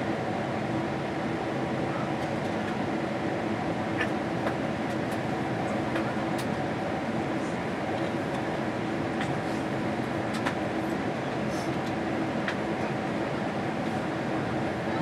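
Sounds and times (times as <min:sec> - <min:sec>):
airliner cabin rumble and hum: 0:00.0 - 0:15.0.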